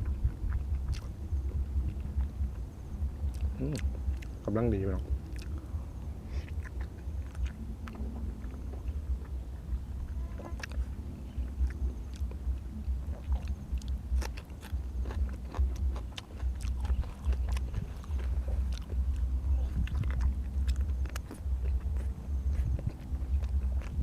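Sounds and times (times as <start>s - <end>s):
low pulsing thump: 0.0s - 4.4s, 5.0s - 24.0s
person chewing: 0.0s - 24.0s.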